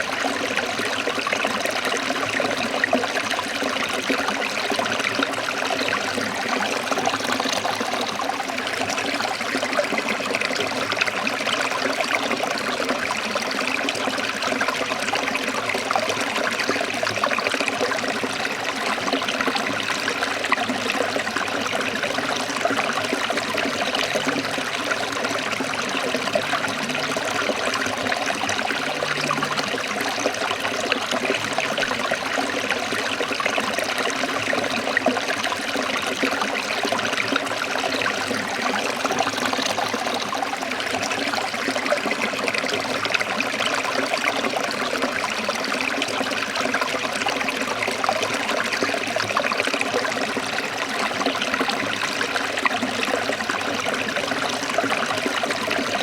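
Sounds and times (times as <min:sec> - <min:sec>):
stream splashing over rocks: 0:00.0 - 0:56.0.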